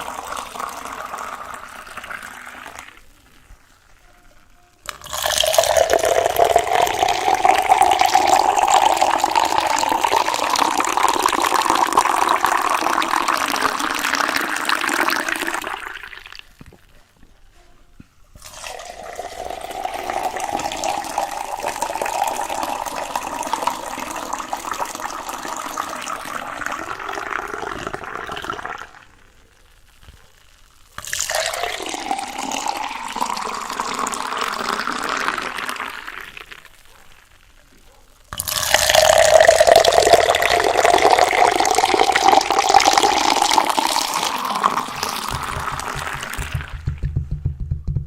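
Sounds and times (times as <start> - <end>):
water poured into container: 0.0 - 3.8, 4.8 - 16.6, 18.4 - 29.2, 30.7 - 36.9, 38.3 - 47.0.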